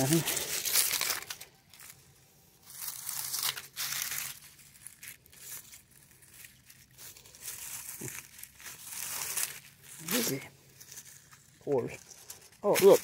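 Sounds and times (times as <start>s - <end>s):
dry leaves crinkling: 0.0s - 13.0s.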